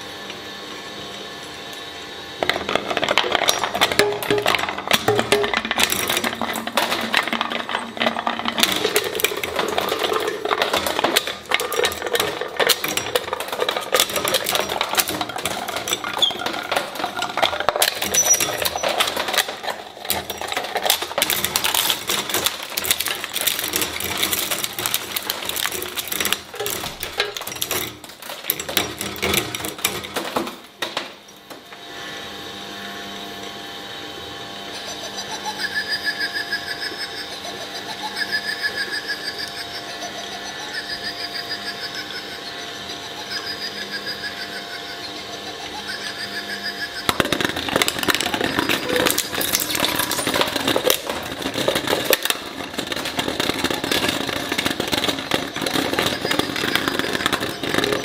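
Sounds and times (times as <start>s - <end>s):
steady machine hum: 0.0s - 58.0s
shredder blades chewing rubber: 2.2s - 30.6s, 36.9s - 58.0s.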